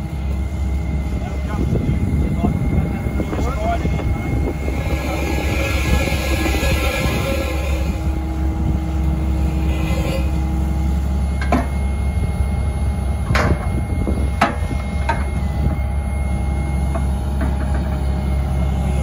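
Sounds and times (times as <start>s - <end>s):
drilling rig engine running: 0.0s - 19.0s.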